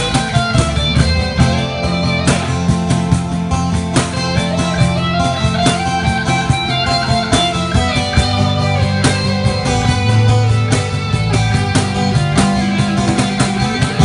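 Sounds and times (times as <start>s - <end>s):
bass line: 0.0s - 14.0s
drum hits: 0.0s - 14.0s
guitar notes: 0.0s - 14.0s.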